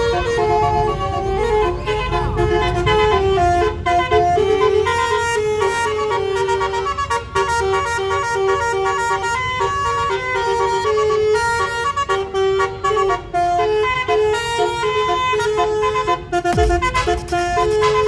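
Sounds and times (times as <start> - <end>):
multi-tone bus horn tune: 0.0 - 18.0.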